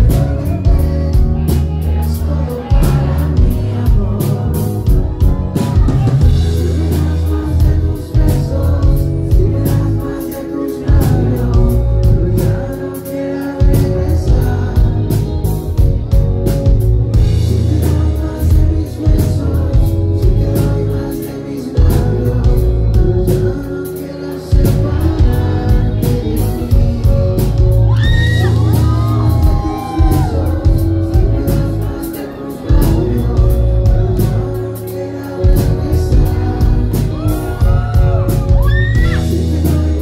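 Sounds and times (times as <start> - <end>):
drums: 0.0 - 40.0
electric guitar: 0.0 - 40.0
heavy bass: 0.0 - 40.0
singer singing into microphone: 0.0 - 40.0.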